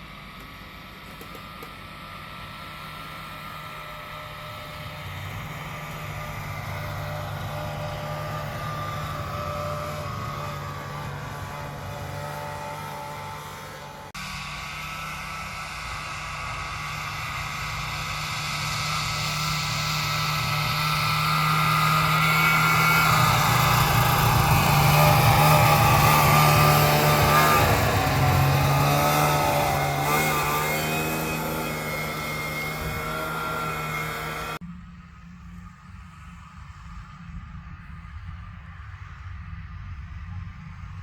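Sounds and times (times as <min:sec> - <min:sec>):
snowmobile engine passing: 0:00.0 - 0:41.0.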